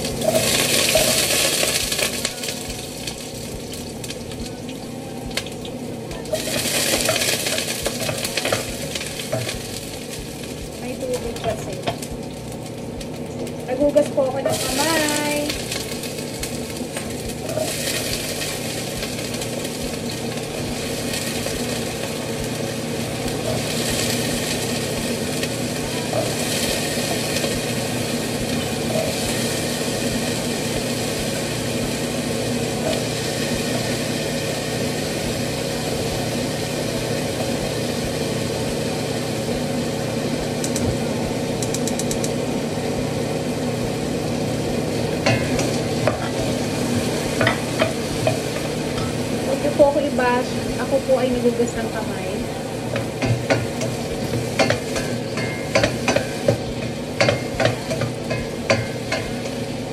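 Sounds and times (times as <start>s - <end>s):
steady low hum: 0.0s - 59.9s
vegetables sizzling in oil: 0.0s - 59.9s.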